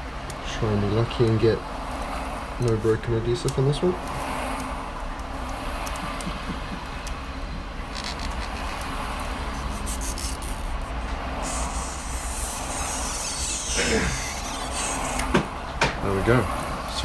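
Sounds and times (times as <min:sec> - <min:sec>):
motorway traffic passing: 0:01.4 - 0:17.0.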